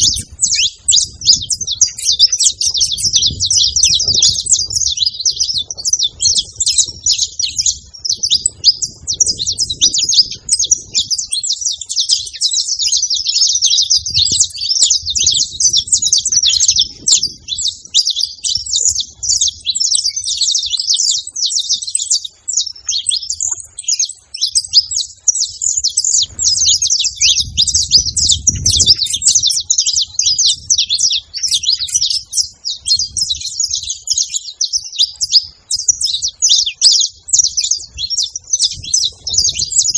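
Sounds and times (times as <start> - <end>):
finch singing high chirps and trills: 0.0 - 39.9.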